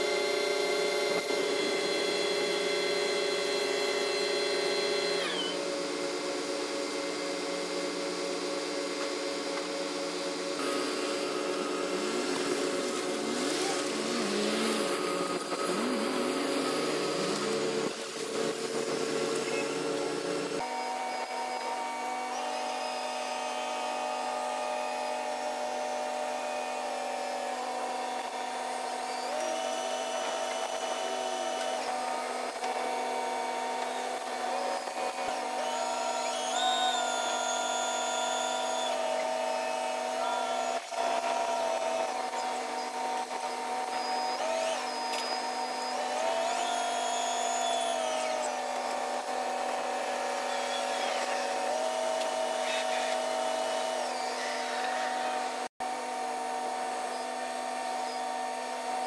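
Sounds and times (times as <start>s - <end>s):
high whining engine: 0.0s - 59.0s.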